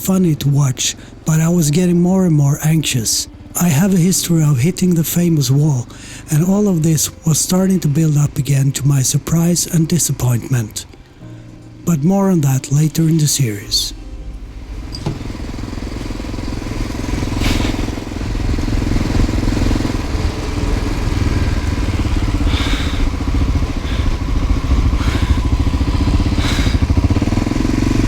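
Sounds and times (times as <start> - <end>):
motorcycle engine running: 0.0 - 11.5, 13.6 - 28.0.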